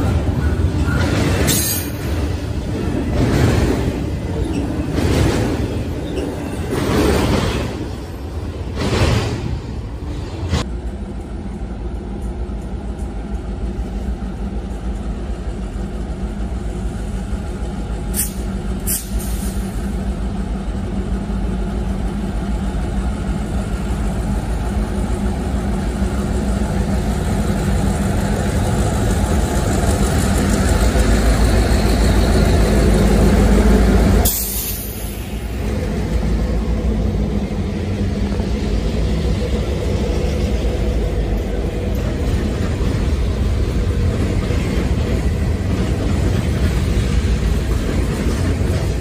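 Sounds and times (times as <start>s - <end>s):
diesel locomotive rumble: 0.0s - 49.0s.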